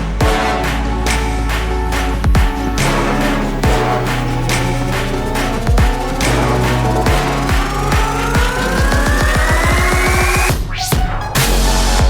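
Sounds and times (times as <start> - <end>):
rising synth sweep: 0.0 - 10.5
electronic dance music: 0.0 - 12.0.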